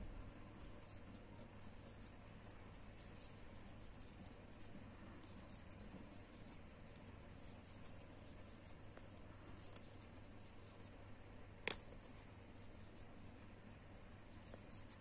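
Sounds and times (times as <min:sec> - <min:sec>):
crochet hook rustling yarn: 0:00.3 - 0:15.0.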